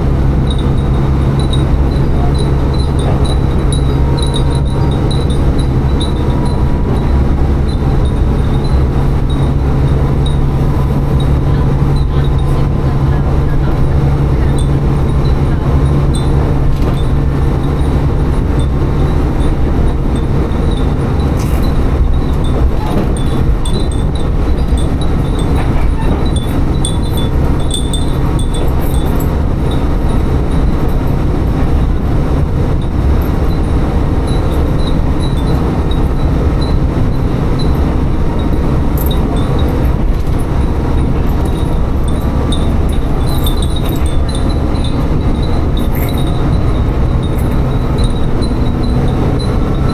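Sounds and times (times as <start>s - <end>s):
train engine and wheels rumbling: 0.0s - 49.9s
wind chimes tinkling: 0.4s - 31.9s, 32.8s - 49.9s.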